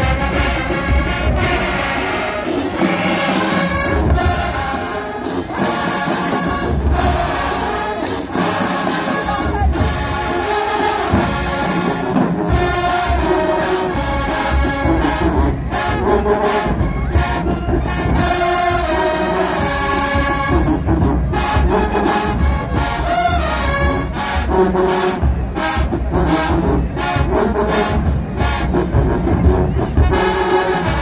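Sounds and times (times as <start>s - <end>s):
drum beat: 0.0s - 31.0s
marching band brass: 0.0s - 31.0s.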